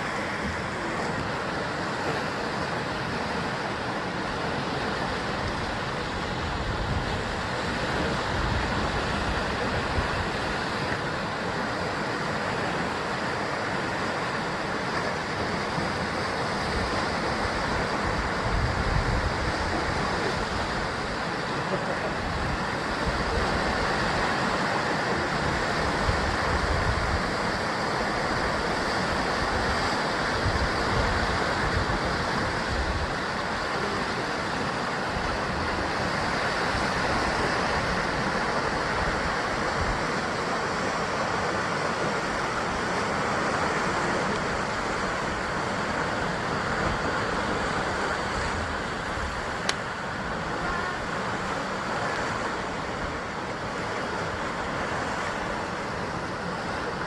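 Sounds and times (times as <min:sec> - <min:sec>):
ocean waves on rocky shore: 0:00.0 - 0:57.0
wind rumble on microphone: 0:04.2 - 0:13.0, 0:14.6 - 0:57.0.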